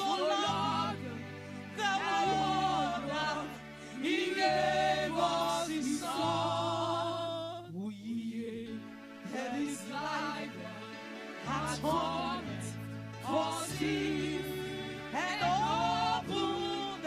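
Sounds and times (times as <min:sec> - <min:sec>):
women's choir singing gospel: 0:00.0 - 0:07.7, 0:08.4 - 0:17.0
lead singer: 0:00.0 - 0:17.0.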